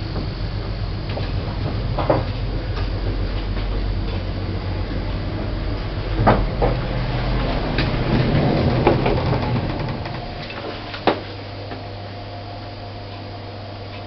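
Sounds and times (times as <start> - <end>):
lift electric hum: 0.0 - 14.0.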